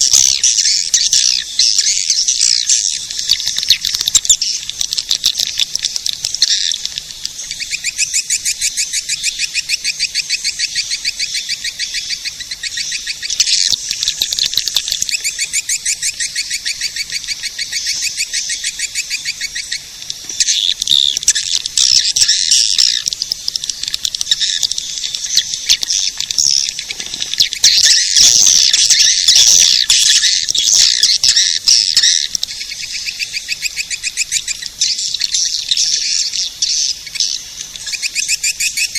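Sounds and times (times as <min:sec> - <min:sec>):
swiftlet chattering twitter: 0:00.0 - 0:38.9.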